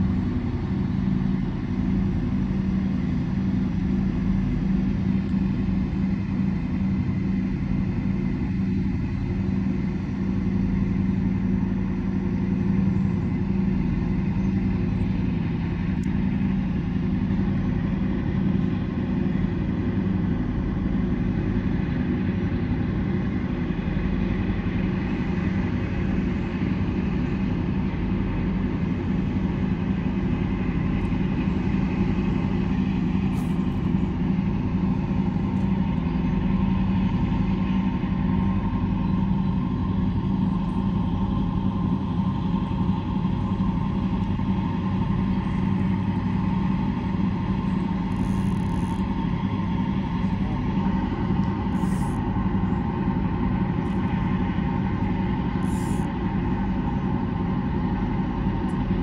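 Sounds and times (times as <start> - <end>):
towboat diesel engines droning: 0.0 - 59.0.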